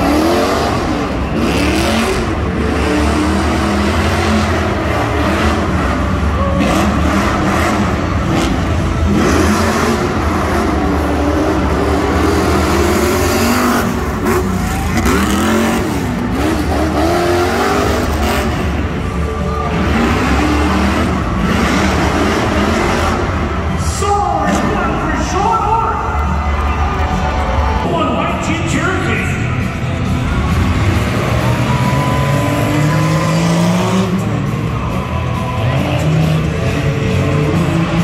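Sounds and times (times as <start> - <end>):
steady low drone: 0.0 - 38.0
truck engine revving: 0.0 - 38.0.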